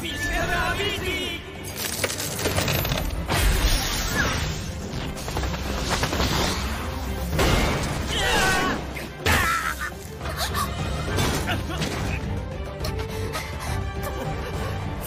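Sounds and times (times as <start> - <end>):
background battle music: 0.0 - 15.0.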